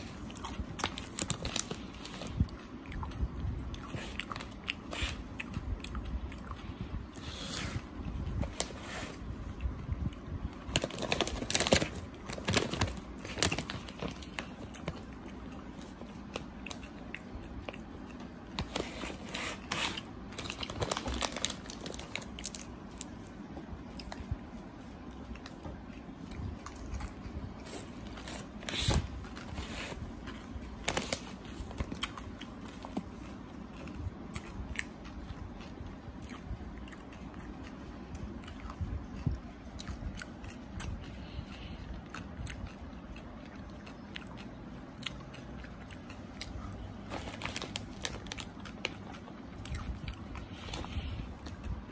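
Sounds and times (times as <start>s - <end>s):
candy being chewed and crunched: 0.0s - 51.9s.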